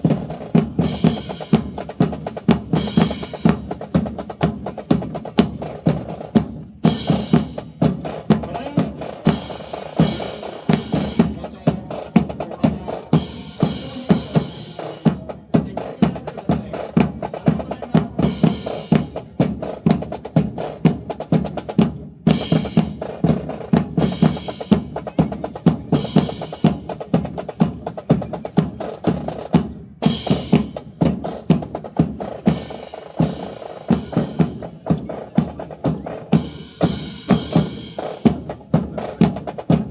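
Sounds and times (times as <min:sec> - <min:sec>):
marching snare and bass drums: 0:00.0 - 0:39.9.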